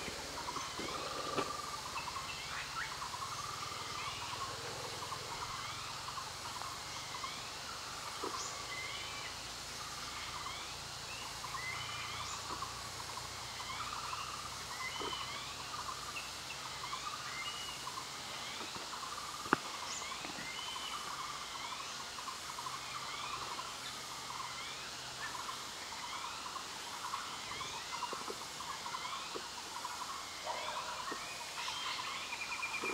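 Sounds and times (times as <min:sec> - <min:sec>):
warbling birds: 0:00.0 - 0:32.9.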